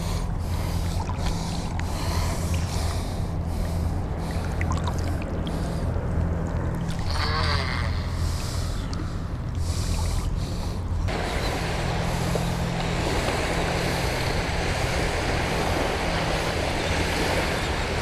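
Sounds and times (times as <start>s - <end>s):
engine humming: 0.0s - 18.0s
rush of wind and water: 0.0s - 18.0s.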